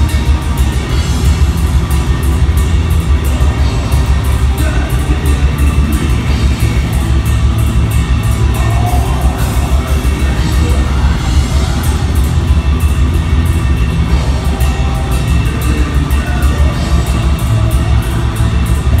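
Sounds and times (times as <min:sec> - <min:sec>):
distorted guitars and bass: 0:00.0 - 0:19.0
harsh vocals: 0:00.0 - 0:19.0
rapid drums and cymbals: 0:00.0 - 0:19.0.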